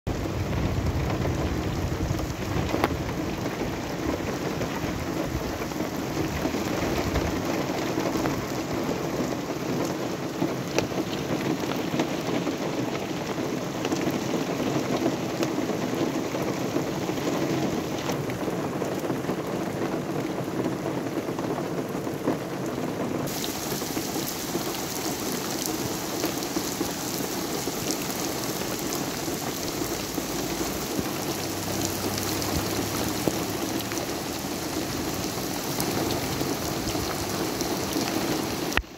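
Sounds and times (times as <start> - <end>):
heavy rain on pavement: 0.1 - 38.9.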